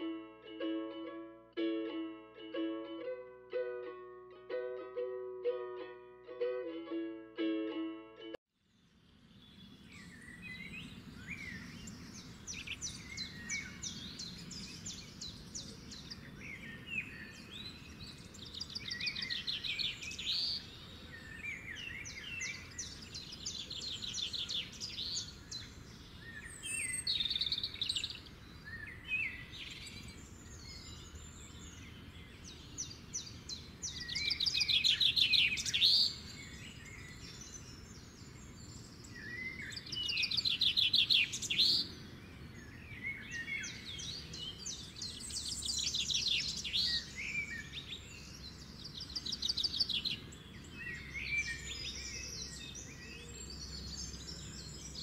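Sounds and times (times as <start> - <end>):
songbirds chirping and trilling: 8.6 - 55.0.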